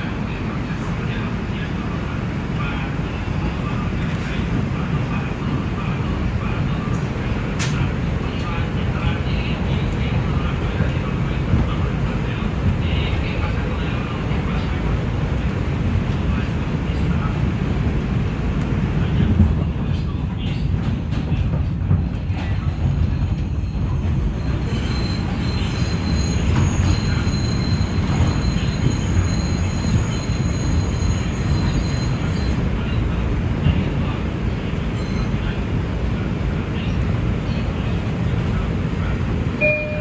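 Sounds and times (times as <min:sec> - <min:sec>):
subway train rumbling on track: 0:00.0 - 0:40.0.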